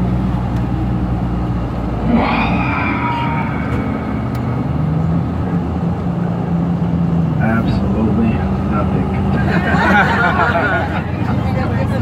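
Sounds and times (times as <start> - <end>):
coach engine drone and road noise: 0.0 - 12.0.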